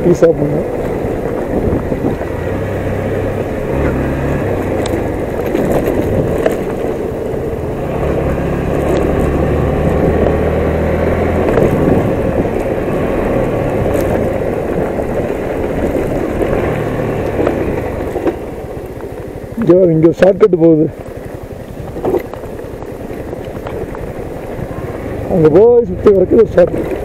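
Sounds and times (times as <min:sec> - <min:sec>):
motorcycle engine running: 0:00.0 - 0:27.0
rough rumble of riding on dirt: 0:00.0 - 0:27.0.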